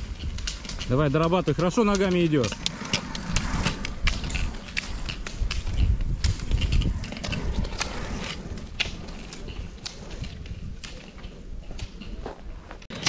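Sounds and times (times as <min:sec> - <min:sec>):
low rumble: 0:00.0 - 0:12.2
ski strides clicking: 0:00.0 - 0:13.0.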